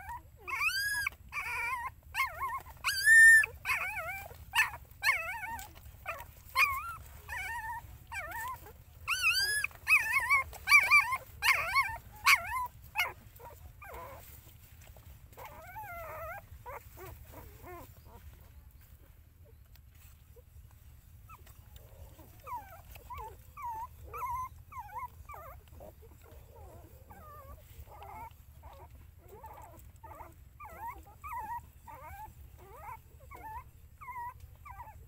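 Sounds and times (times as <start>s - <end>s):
puppies whining and squealing: 0.0s - 35.0s.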